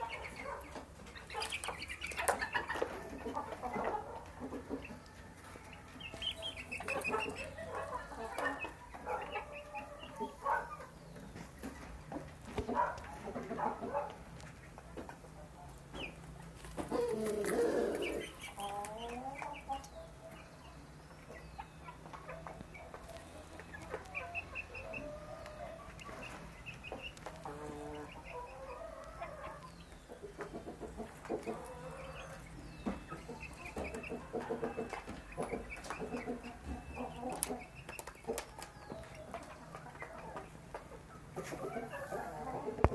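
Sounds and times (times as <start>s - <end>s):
beaks pecking at dish: 0.0s - 42.9s
chicks clucking and peeping: 0.0s - 42.9s.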